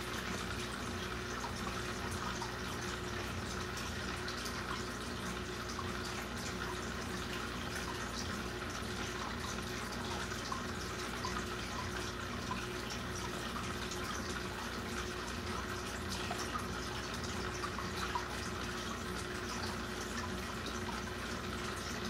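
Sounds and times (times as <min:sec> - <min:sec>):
aquarium water trickling and bubbling: 0:00.0 - 0:22.0
low steady hum: 0:00.0 - 0:22.0
water drips: 0:00.0 - 0:22.0.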